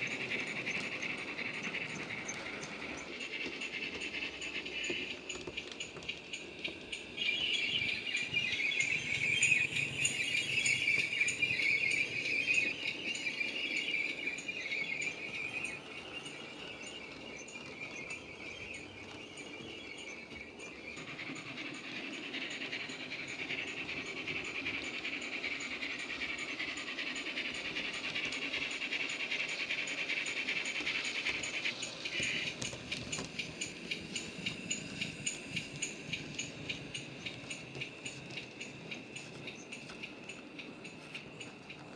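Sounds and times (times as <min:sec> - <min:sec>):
model train running noise: 0:00.0 - 0:41.9
steam locomotive sounds from speaker: 0:00.0 - 0:41.9
wagons clicking on track: 0:00.0 - 0:41.9.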